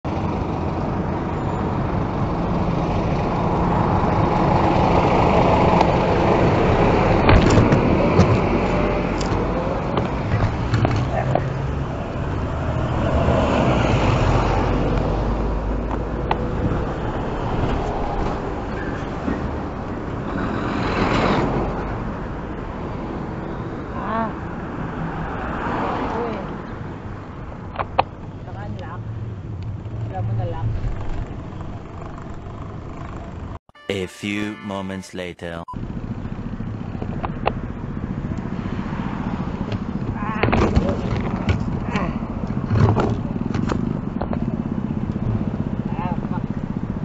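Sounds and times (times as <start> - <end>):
traffic noise: 0.1 - 33.6, 35.8 - 47.0.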